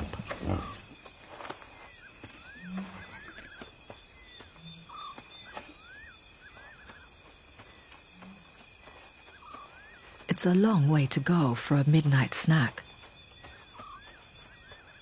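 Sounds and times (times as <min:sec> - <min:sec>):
chirping calls and trills: 0:00.0 - 0:11.3, 0:12.7 - 0:15.0
high insect drone: 0:00.0 - 0:15.0.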